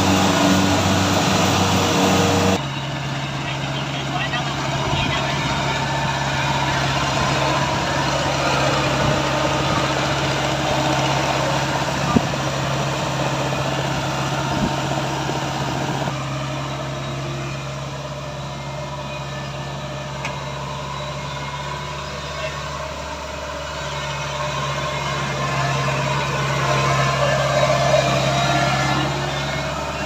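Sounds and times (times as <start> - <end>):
harvester engine humming: 0.0 - 30.0
high mechanical noise: 0.0 - 30.0.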